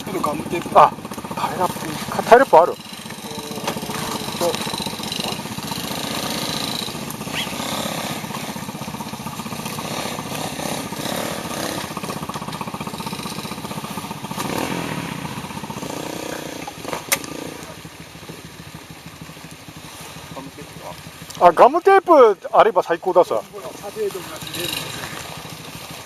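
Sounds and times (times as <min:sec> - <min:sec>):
small motorcycle engine idling: 0:00.0 - 0:26.0.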